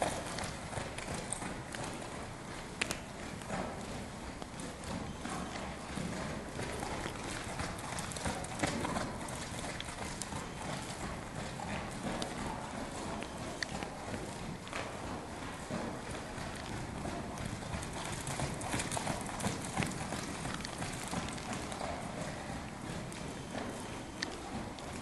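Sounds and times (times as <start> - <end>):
horse hooves trotting on sand: 0.0 - 25.0.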